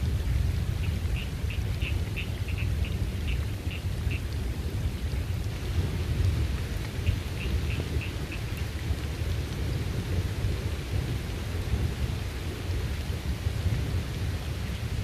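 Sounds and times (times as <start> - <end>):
low thunder rumble: 0.0 - 15.0
steady rain: 0.0 - 15.0.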